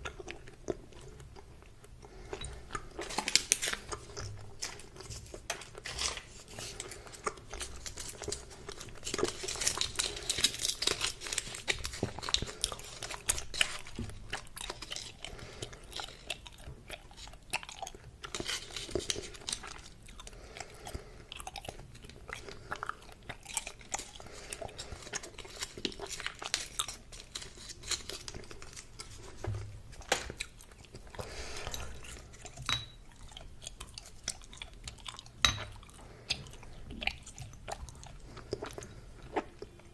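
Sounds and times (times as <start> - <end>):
gum chewing clicks and smacks: 0.0 - 39.9.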